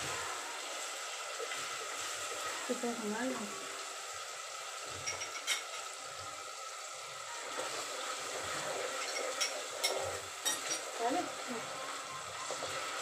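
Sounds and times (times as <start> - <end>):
masala sizzling in a pot: 0.0 - 13.0.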